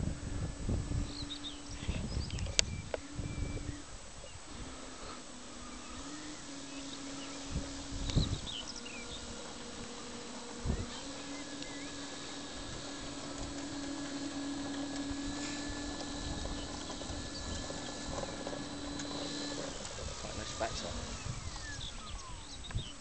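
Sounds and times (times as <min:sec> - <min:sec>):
model plane engine running: 0:00.0 - 0:23.0.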